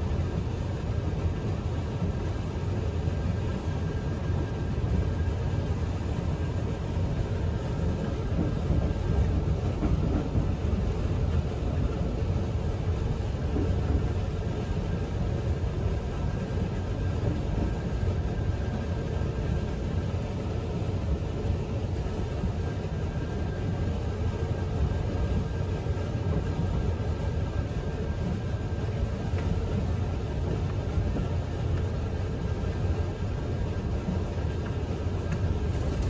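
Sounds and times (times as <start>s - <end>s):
faint steady whine: 0.0s - 36.0s
train wheels rumbling on rail: 0.0s - 36.0s.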